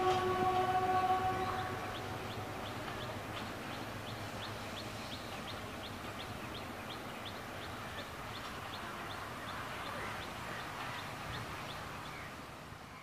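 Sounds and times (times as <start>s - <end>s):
train diesel engine: 0.0s - 13.0s.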